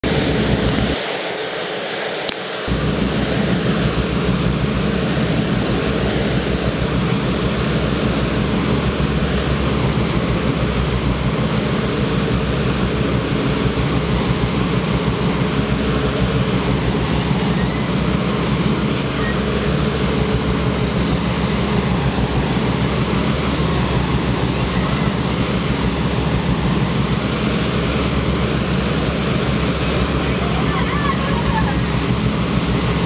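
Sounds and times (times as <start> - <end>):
motorboat engine rumble: 0.0 - 33.0
wake spray: 0.0 - 33.0
wind rushing on microphone: 0.0 - 33.0.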